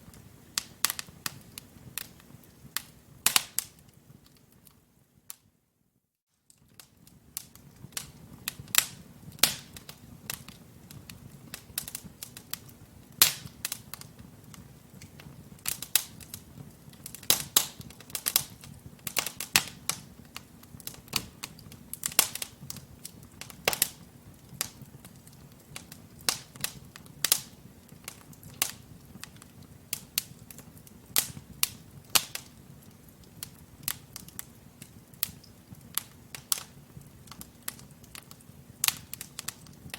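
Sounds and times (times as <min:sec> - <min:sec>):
low rumble of flame: 0:00.0 - 0:05.3, 0:06.6 - 0:39.9
wood fire crackling and popping: 0:00.0 - 0:05.5, 0:06.4 - 0:39.9.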